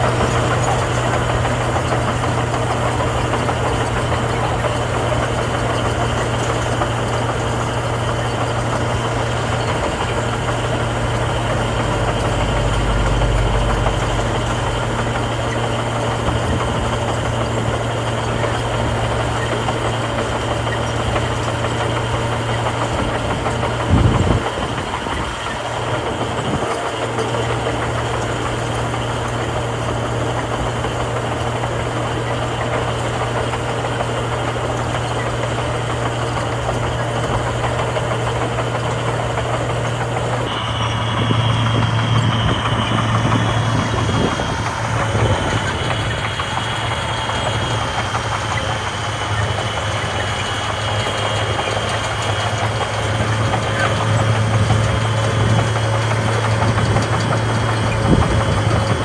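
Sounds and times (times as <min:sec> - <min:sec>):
diesel construction machinery running: 0:00.0 - 0:59.0.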